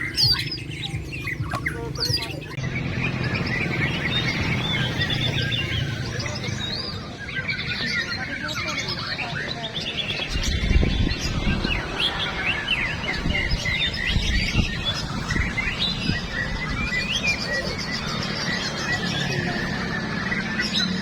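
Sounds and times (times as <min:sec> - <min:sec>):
birds singing: 0:00.0 - 0:21.0.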